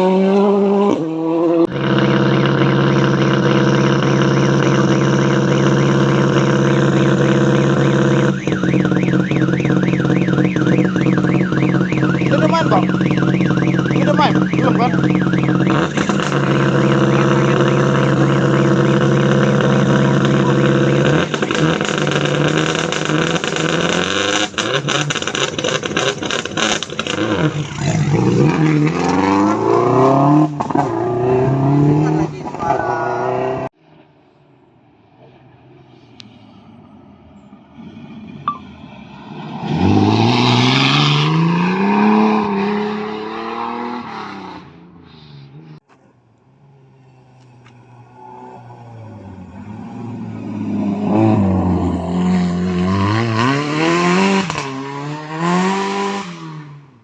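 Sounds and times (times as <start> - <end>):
rally car engine revving: 0.0 - 33.8, 37.8 - 45.8, 46.7 - 57.0.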